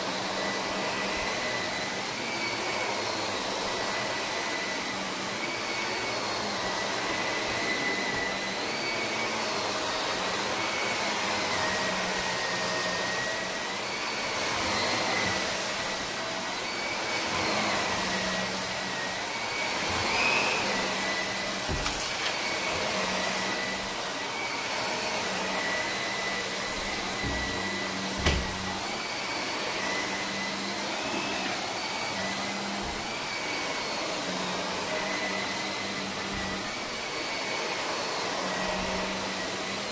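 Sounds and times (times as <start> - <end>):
vacuum cleaner on carpet: 0.0 - 39.9.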